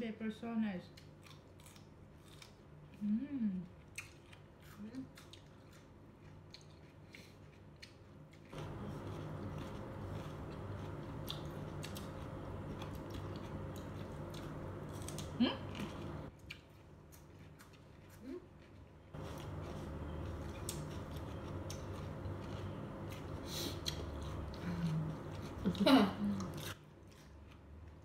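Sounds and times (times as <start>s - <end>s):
crunchy vegetable chewing: 1.0s - 3.1s, 3.7s - 28.0s.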